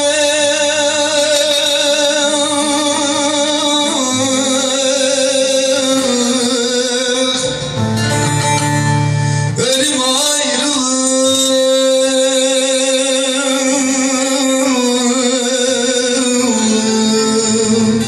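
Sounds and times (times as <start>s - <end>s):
folk music on lute and guitar: 0.0s - 18.0s.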